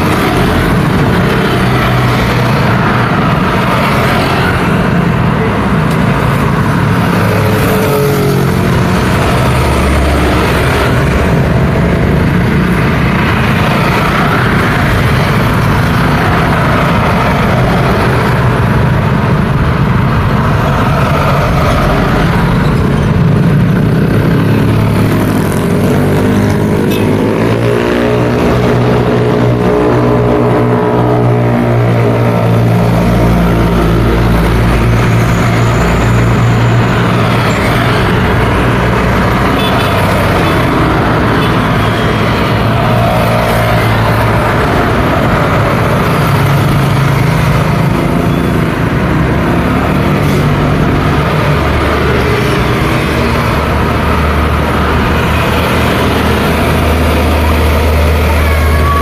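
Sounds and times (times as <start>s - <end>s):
heavy truck engine hum: 0.0s - 59.0s
road traffic passing: 0.0s - 59.0s.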